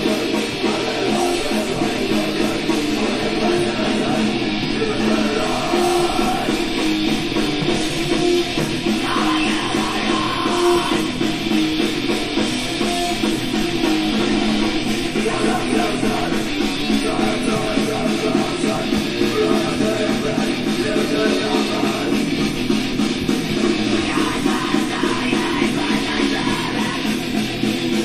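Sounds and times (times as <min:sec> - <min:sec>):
heavy metal rock music: 0:00.0 - 0:28.0.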